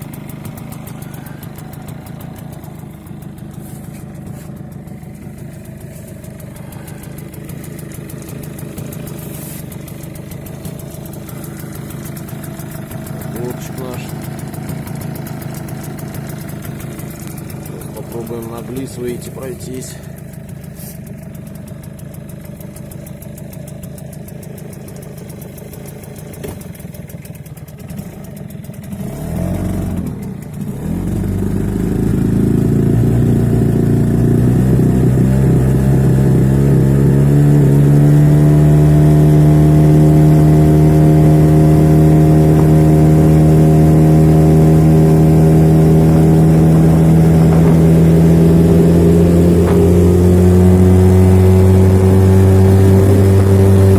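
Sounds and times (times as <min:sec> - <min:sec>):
outboard motor running: 0:00.0 - 0:53.9.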